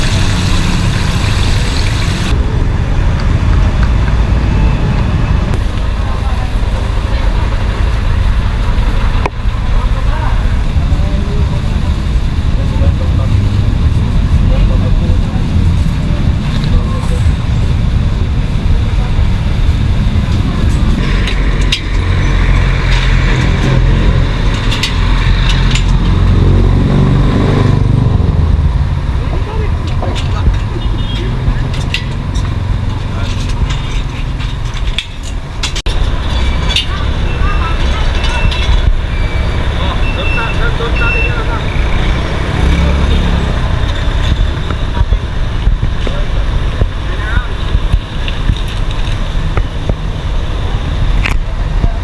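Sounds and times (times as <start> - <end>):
traffic engine rumble: 0.0 - 52.0.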